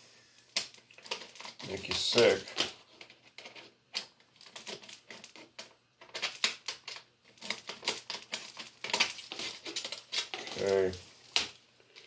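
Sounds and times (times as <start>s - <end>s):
foil tubing crinkling and clicking: 0.4s - 12.0s.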